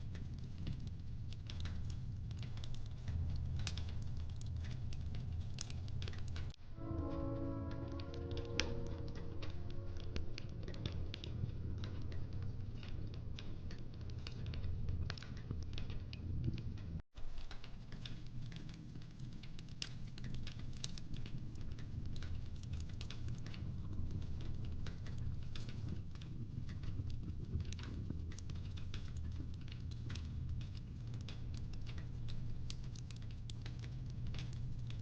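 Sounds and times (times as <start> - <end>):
fireplace crackling: 0.0 - 15.8, 17.3 - 35.0.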